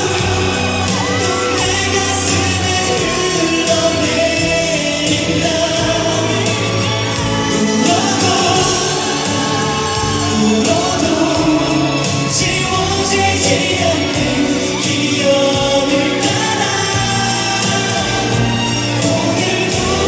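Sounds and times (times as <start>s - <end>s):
man singing into microphone: 0.0s - 20.0s
pop backing music: 0.0s - 20.0s.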